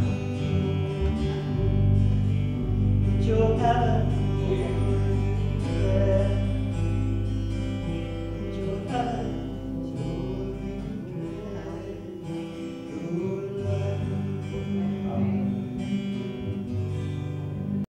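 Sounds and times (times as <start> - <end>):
acoustic guitar chords: 0.0 - 17.9.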